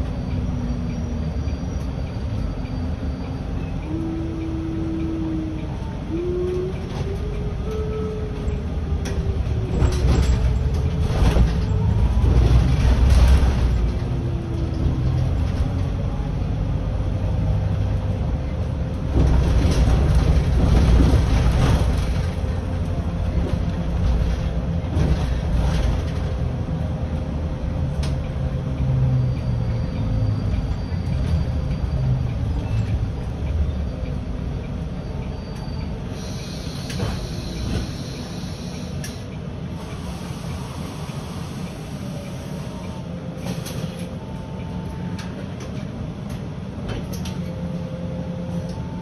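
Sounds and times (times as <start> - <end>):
bus rumbling on road: 0.0 - 49.0.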